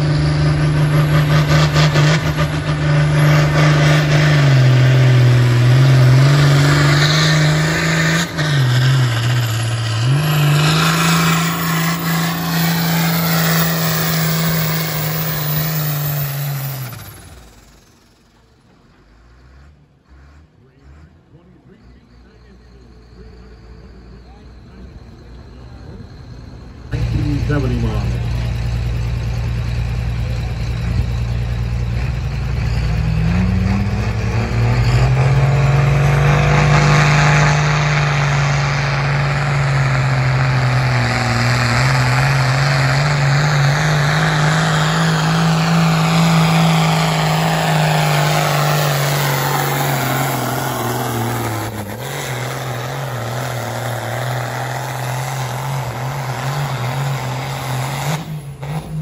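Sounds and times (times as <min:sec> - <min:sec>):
tractor diesel engine revving: 0:00.0 - 0:59.0.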